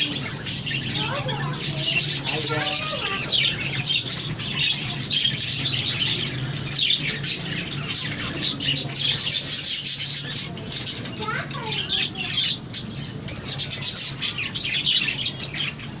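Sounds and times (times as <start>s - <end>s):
budgerigars chattering: 0.0s - 16.0s.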